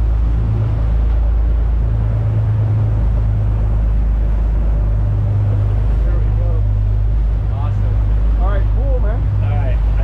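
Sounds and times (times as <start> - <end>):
boat engines droning: 0.0 - 10.0.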